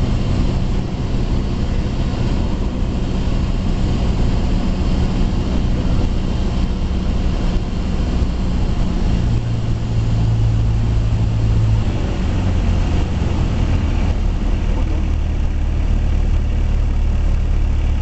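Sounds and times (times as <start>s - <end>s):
airplane engine and propeller drone: 0.0s - 18.0s.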